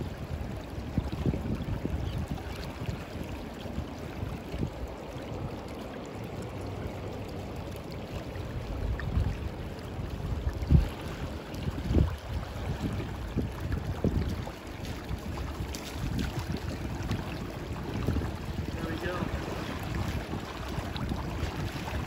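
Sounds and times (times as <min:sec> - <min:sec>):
wind buffeting microphone: 0:00.0 - 0:05.7, 0:08.6 - 0:22.0
river current rushing: 0:03.5 - 0:22.0.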